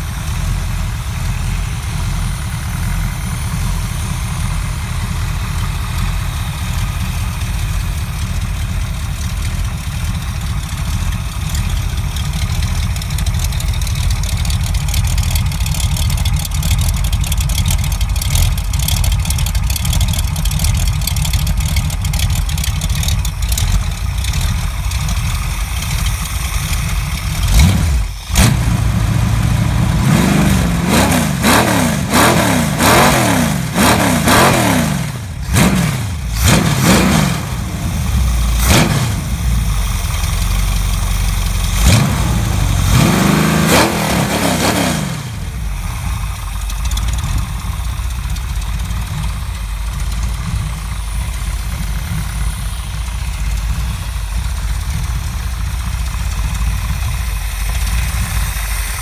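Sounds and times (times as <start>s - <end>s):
engine idling and revving: 0.0s - 59.0s.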